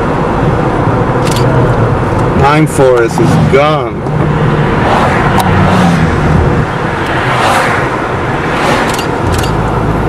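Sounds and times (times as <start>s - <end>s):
car engine hum: 0.0s - 10.0s
road and tyre noise: 0.0s - 10.0s.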